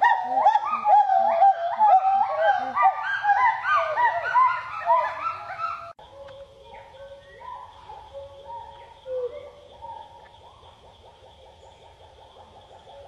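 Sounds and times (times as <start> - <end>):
flock of animals calling: 0.0 - 13.0.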